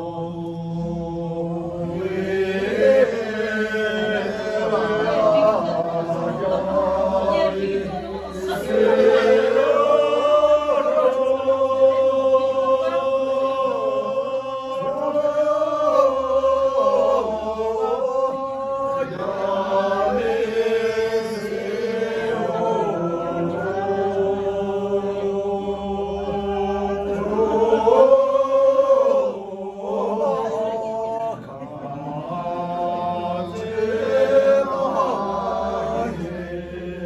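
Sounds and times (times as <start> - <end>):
group singing in unison: 0.0 - 37.0.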